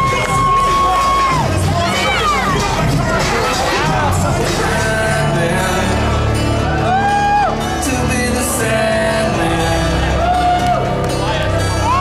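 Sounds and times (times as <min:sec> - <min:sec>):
entrance music over loudspeakers: 0:00.0 - 0:12.0
steady bass line: 0:00.0 - 0:12.0.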